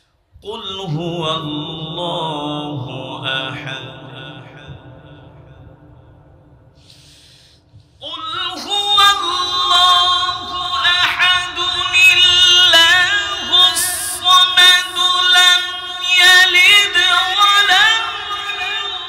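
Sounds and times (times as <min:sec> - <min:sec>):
person reciting melodically: 0:00.4 - 0:05.6, 0:08.0 - 0:19.0.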